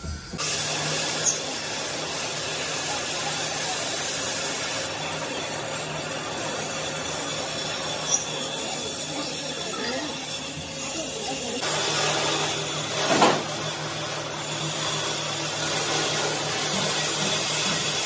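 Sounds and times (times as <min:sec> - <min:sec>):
rushing noise of metal cutting: 0:00.0 - 0:18.0.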